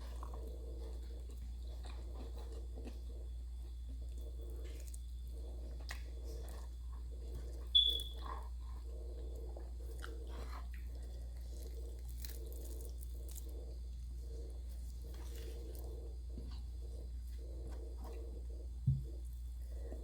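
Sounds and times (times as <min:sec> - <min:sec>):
chewing crisp food: 0:00.0 - 0:20.0
steady low hum: 0:00.0 - 0:20.0.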